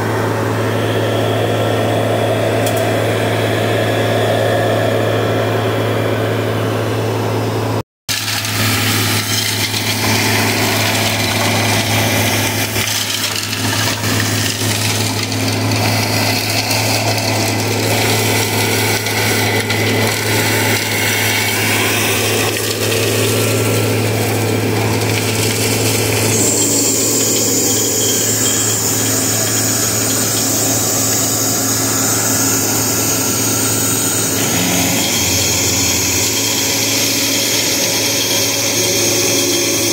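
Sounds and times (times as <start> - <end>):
high whine: 0.0 - 39.9
truck engine and blower droning: 0.0 - 39.9.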